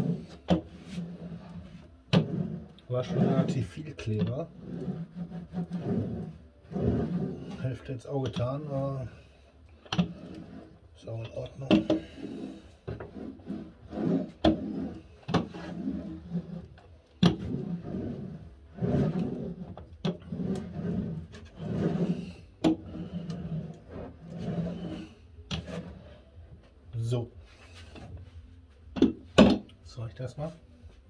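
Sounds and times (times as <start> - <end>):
hand roller rubbing on cork: 0.0 - 29.2.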